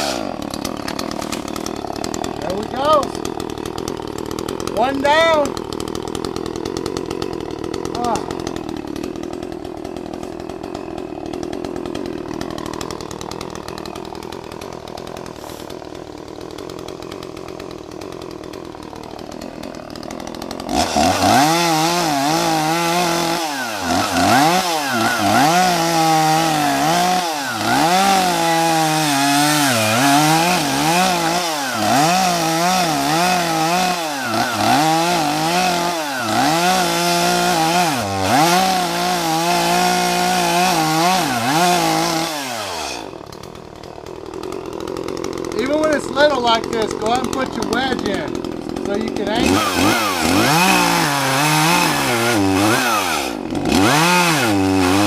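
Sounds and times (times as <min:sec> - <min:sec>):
chainsaw revving and cutting wood: 0:00.0 - 0:55.0.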